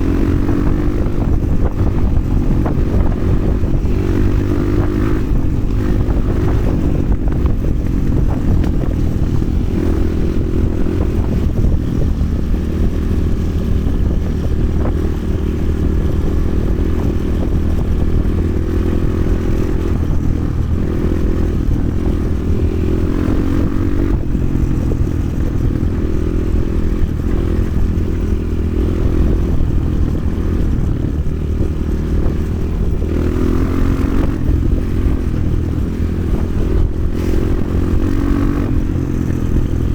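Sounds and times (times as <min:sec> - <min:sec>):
heavy low rumble: 0:00.0 - 0:39.9
motorcycle engine revving: 0:00.0 - 0:39.9.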